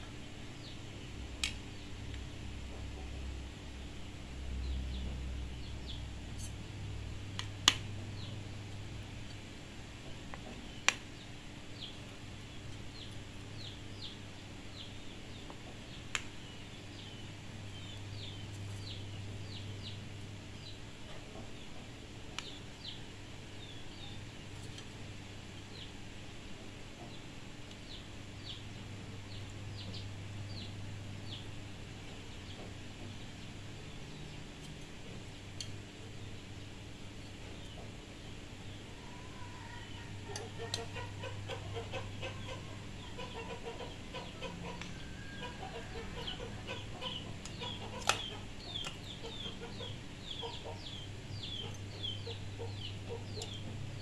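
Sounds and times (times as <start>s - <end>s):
low steady hum: 0.0s - 54.0s
birds chirping: 9.2s - 54.0s.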